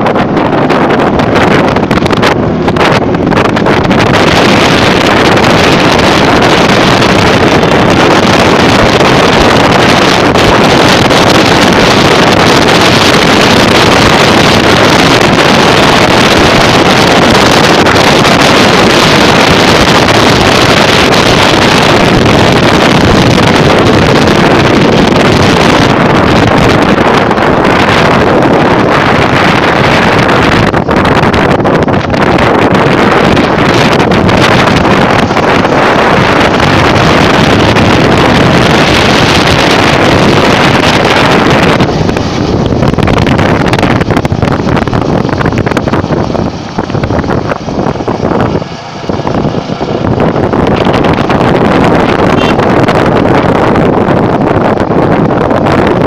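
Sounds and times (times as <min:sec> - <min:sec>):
motorcycle engine running: 0:00.0 - 0:55.8
wind rushing over microphone: 0:00.0 - 0:56.0.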